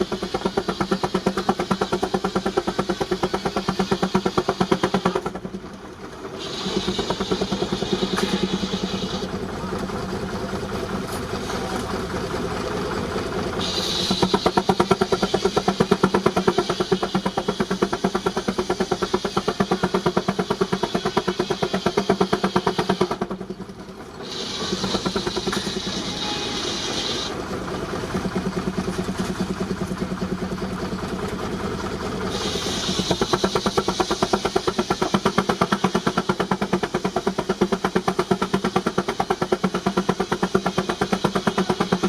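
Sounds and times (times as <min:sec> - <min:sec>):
steam traction engine exhaust beating: 0:00.0 - 0:42.0.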